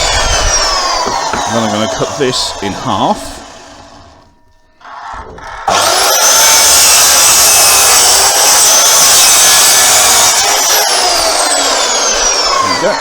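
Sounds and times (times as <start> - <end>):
power saw whining: 0.0 - 13.0.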